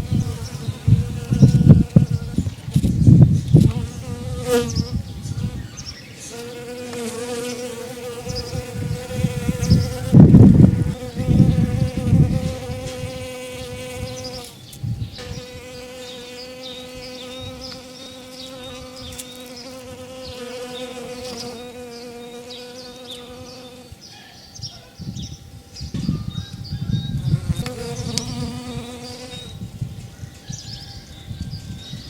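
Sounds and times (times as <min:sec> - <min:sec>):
buzzing hum: 0:00.0 - 0:23.9, 0:27.1 - 0:30.2
birds chirping: 0:00.0 - 0:32.0.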